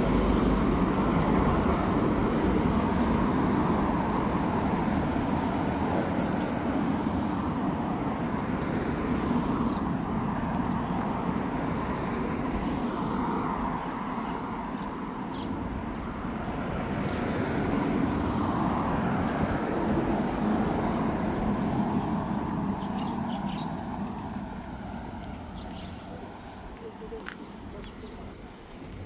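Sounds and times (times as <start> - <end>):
rumble of passing cars: 0.0 - 29.0.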